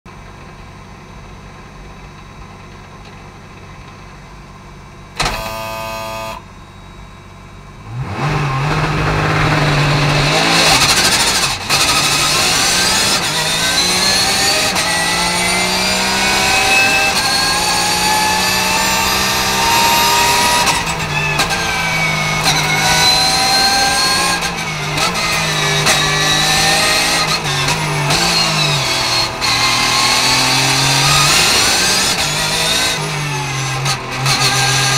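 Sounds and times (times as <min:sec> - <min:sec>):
racing car engine idling and revving: 0:00.1 - 0:34.9
engine blipping on downshifts: 0:05.1 - 0:34.9
engine upshifts: 0:05.1 - 0:34.9.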